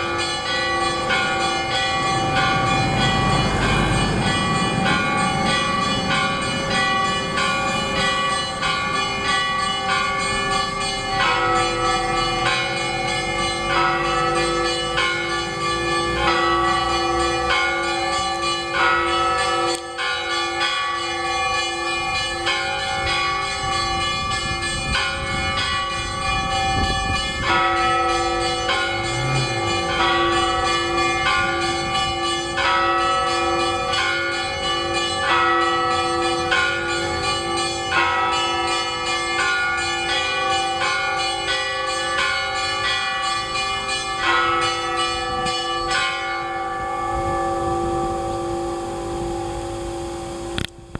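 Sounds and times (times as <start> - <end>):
pulsing low bell tone: 0.0 - 20.7, 22.2 - 38.8, 42.2 - 50.6
church bells ringing a peal: 0.0 - 50.6.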